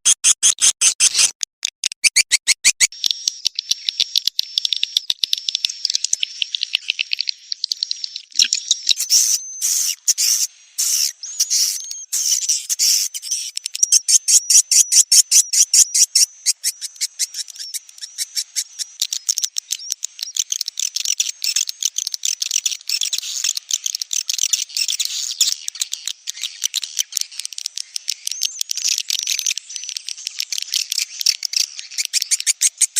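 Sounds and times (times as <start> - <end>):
high-pitched bird chirps and clicks: 0.0 - 32.9
thin steady bird twitter: 2.0 - 32.9.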